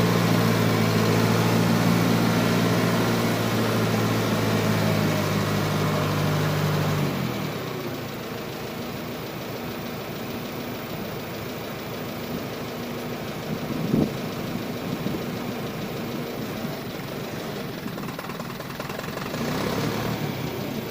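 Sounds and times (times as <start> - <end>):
backhoe engine idling: 0.0 - 20.9.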